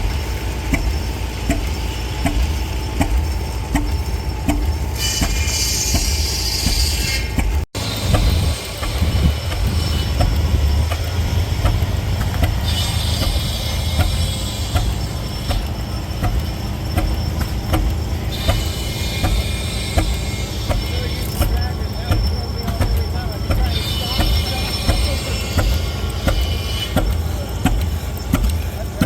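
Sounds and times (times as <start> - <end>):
engine low rumble: 0.0 - 29.0.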